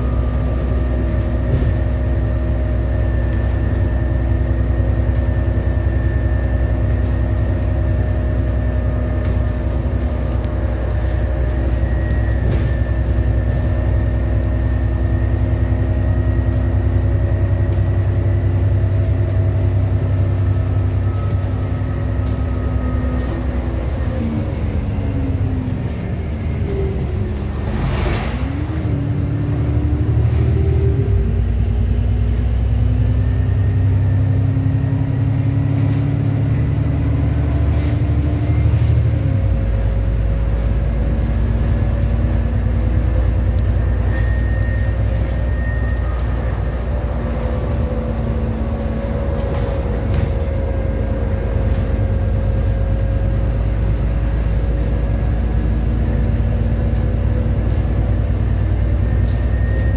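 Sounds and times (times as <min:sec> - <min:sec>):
bus engine running: 0:00.0 - 0:59.9
road and tyre rumble: 0:00.0 - 0:59.9.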